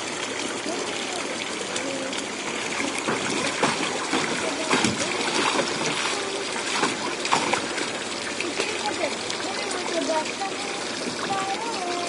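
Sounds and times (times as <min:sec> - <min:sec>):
water running: 0:00.0 - 0:12.0
water splashes: 0:00.0 - 0:12.0.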